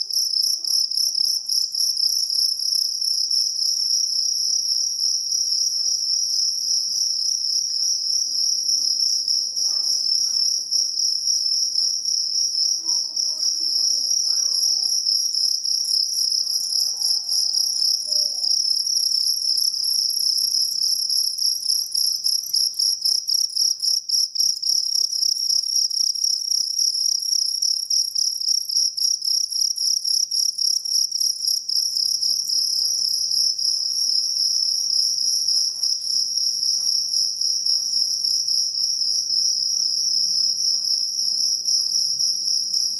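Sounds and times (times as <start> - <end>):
field cricket chirping: 0.0 - 42.9.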